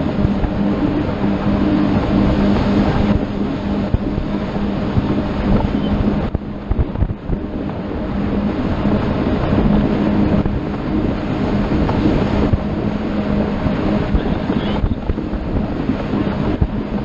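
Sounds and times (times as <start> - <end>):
boat engine droning: 0.0 - 17.0
wind buffeting microphone: 0.0 - 17.0.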